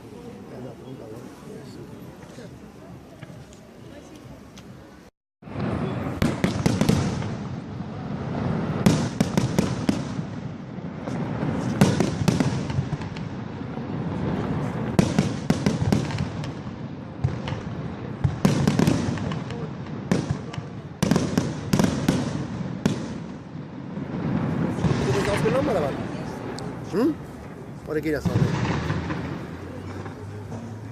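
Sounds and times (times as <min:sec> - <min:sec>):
fireworks bangs and crackling: 0:00.0 - 0:30.9.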